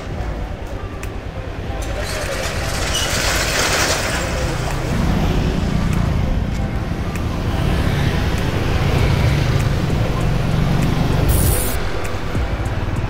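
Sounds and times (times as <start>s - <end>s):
motorbike rumble: 1.6s - 13.0s.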